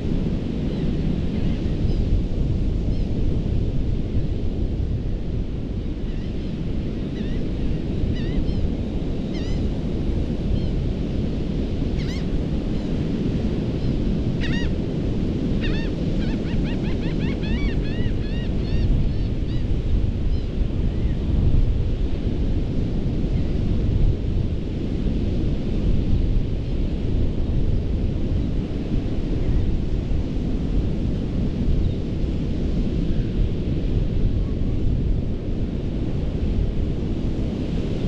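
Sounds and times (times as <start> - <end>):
wind rumbling on microphone: 0.0 - 38.0.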